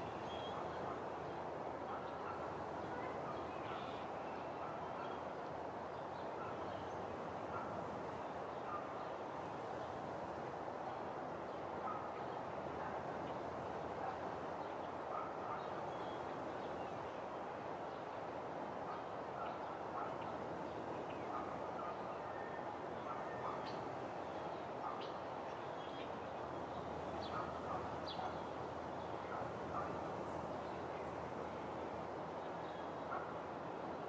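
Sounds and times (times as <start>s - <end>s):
outdoor background rush: 0.0s - 34.0s.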